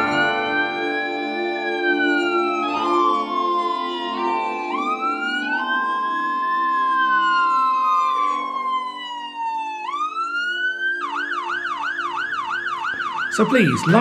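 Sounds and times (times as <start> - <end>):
emergency siren wailing and yelping: 0.0 - 14.0.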